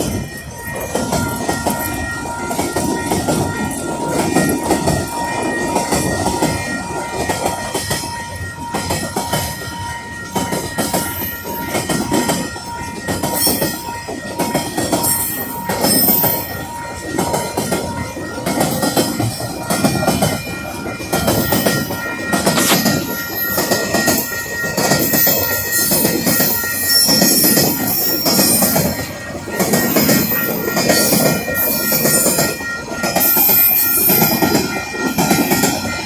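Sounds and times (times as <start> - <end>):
level crossing bells ringing: 0.0 - 36.0
train wheels clattering on rails: 0.0 - 36.0.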